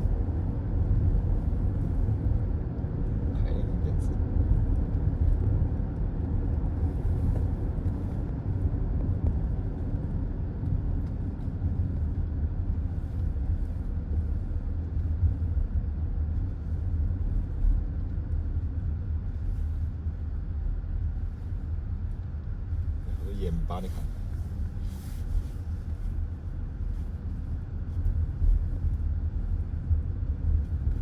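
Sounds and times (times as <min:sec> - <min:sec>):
road and tyre noise inside car: 0:00.0 - 0:31.0.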